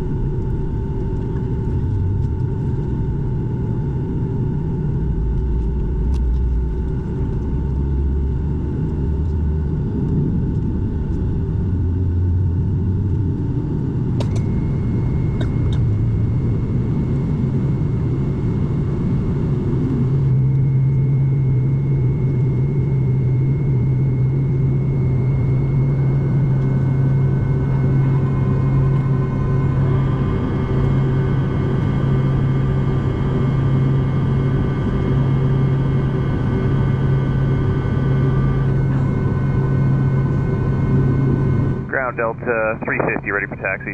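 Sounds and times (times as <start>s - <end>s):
deep steady hum: 0.0s - 43.9s
jet engines rumbling in cabin: 0.0s - 43.9s.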